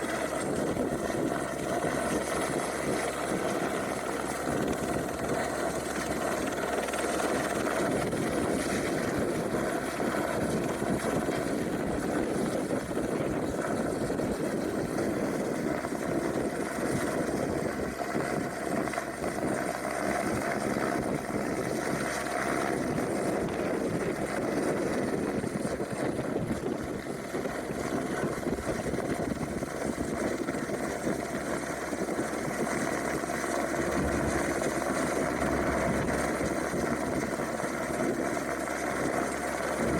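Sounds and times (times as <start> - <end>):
gusty wind: 0.0 - 39.9
helicopter hovering: 0.0 - 39.9.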